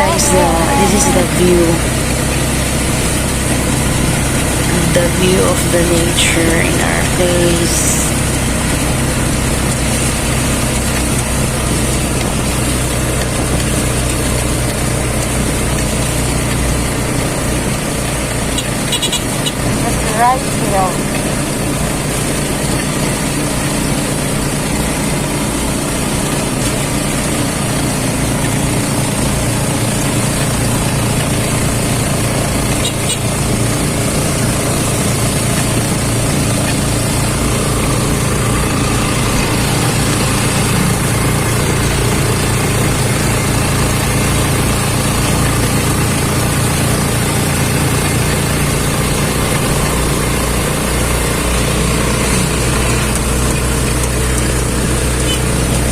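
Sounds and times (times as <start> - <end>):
road noise: 0.0 - 55.9
vehicle engine running: 0.0 - 55.9.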